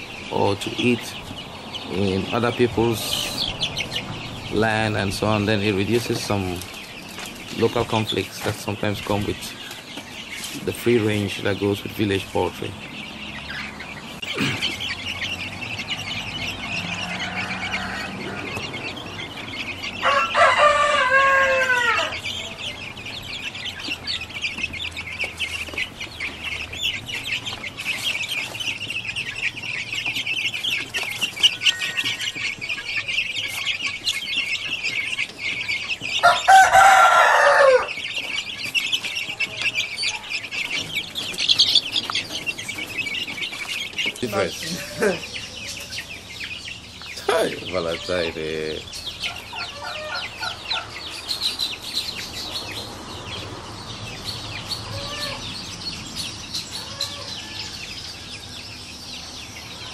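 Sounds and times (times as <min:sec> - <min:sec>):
roosters crowing: 0:00.0 - 0:59.9.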